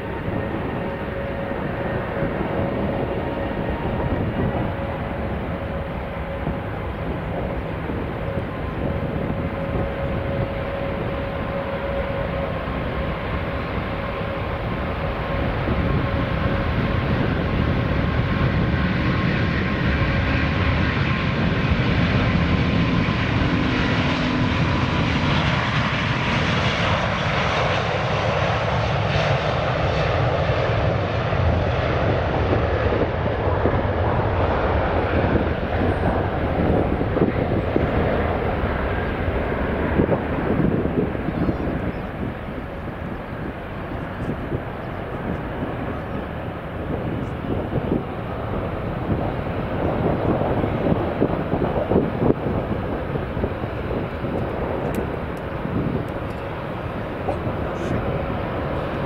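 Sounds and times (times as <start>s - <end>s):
deep rumble: 0.0s - 27.2s, 28.8s - 59.0s.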